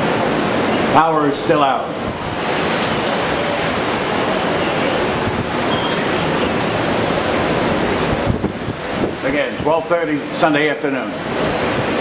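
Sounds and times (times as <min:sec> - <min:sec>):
heavy rain: 0:00.0 - 0:12.0
hurricane wind: 0:00.0 - 0:12.0.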